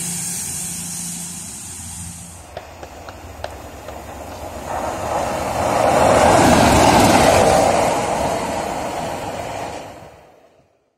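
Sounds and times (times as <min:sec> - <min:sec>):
diesel locomotive engine rumble: 0:00.0 - 0:10.9.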